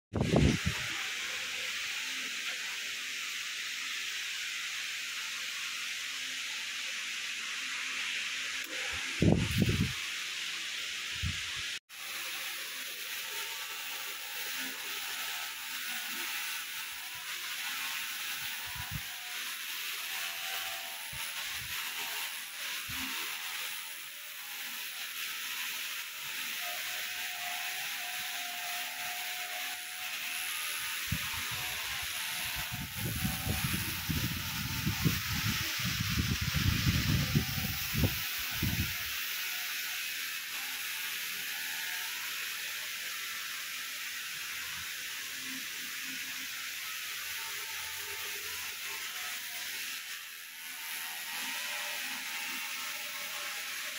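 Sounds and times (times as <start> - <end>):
hair trimmer cutting hair: 0.2 - 53.9
steady hiss: 0.2 - 53.9.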